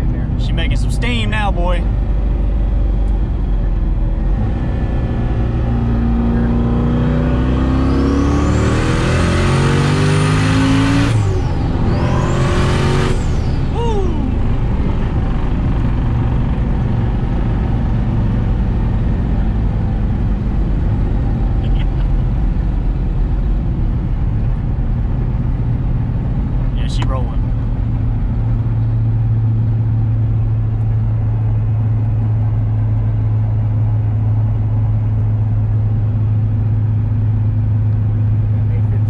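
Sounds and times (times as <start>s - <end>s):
car cruising drone: 0.0s - 39.0s
car engine under hard acceleration: 0.0s - 39.0s.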